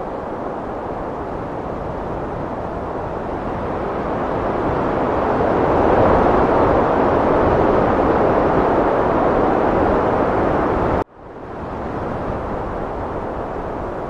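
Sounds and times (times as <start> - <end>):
heavy wind blowing: 0.0 - 14.0.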